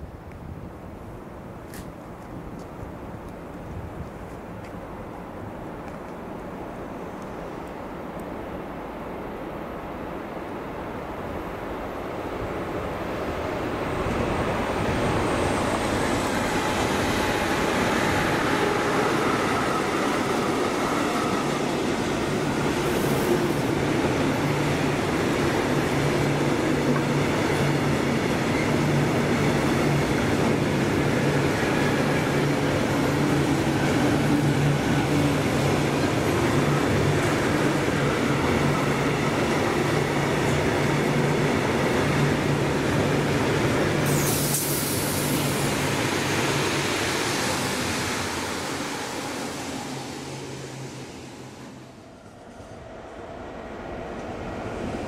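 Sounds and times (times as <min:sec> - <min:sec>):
train running past on rails: 0:00.0 - 0:55.0.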